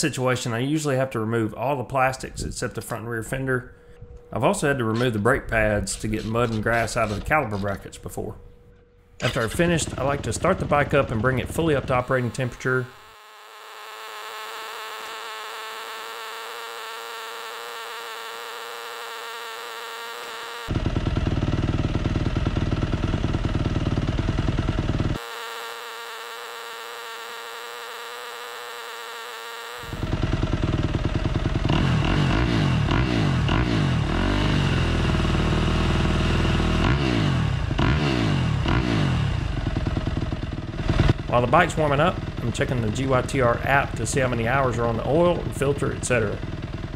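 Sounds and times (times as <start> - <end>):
motorcycle engine revving: 4.5 - 46.9.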